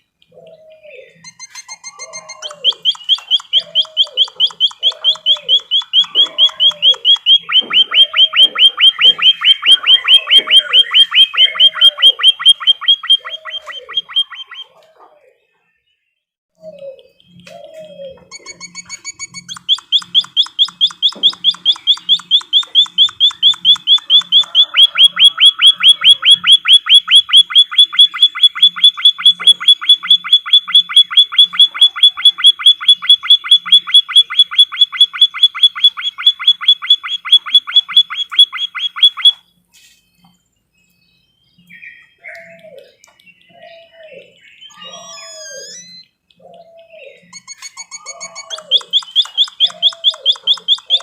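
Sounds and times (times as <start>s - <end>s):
bird trilling: 0.3s - 15.1s, 16.6s - 39.6s, 41.6s - 51.0s.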